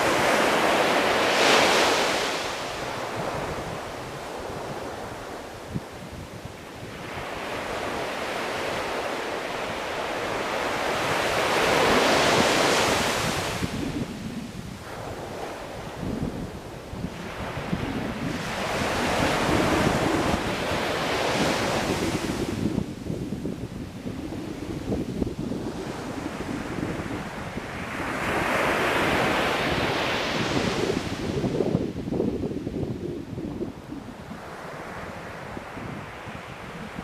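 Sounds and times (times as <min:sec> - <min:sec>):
sea waves breaking on shore: 0:00.0 - 0:31.8.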